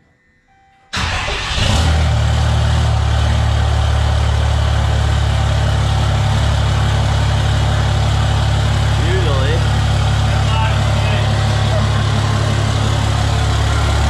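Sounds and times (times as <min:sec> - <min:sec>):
diesel engine idling: 0:00.9 - 0:14.0.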